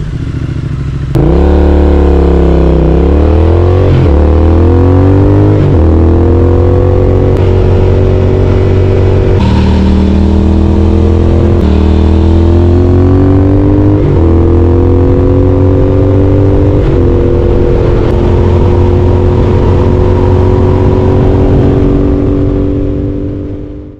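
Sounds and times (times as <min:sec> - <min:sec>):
motorcycle engine accelerating: 0:00.0 - 0:23.9.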